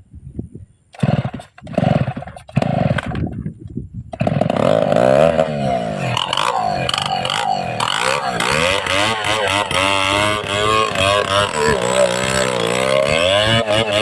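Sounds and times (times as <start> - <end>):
chainsaw engine sputtering and running: 1.0 - 3.4, 4.1 - 14.0.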